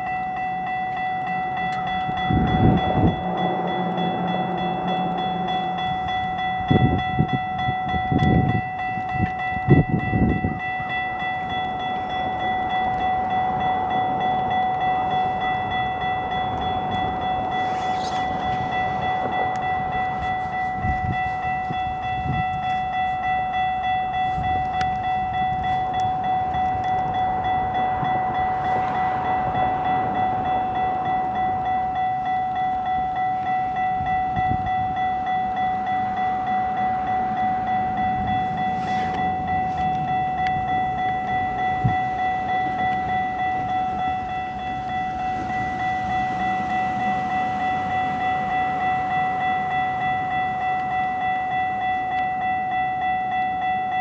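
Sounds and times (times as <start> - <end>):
level crossing bell ringing: 0.0 - 54.0
train running over tracks: 0.0 - 54.0.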